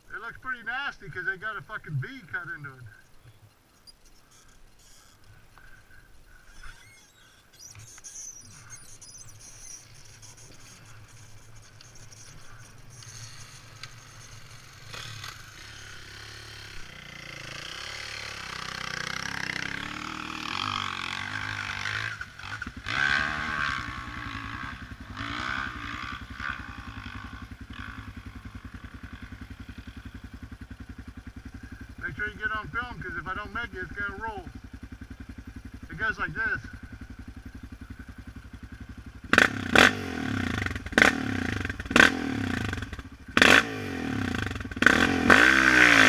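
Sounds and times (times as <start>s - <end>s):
atv engine idling: 0.0s - 46.0s
dirt bike engine revving: 6.6s - 46.0s.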